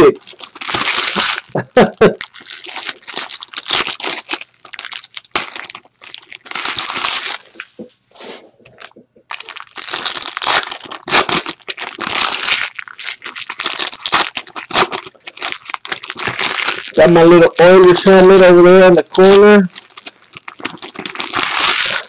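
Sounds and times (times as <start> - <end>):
foil wrappers crinkling: 0.0 - 7.8, 8.8 - 22.0.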